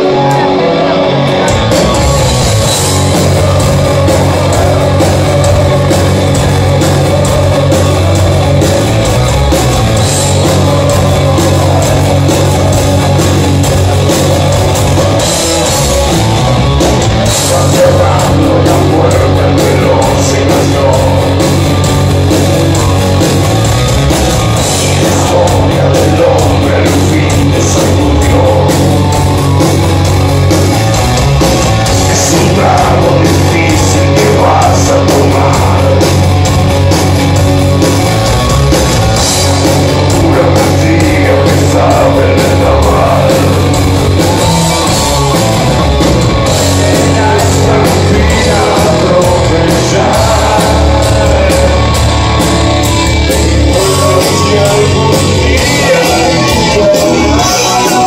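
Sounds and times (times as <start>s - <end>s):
heavy metal band playing: 0.0s - 58.0s.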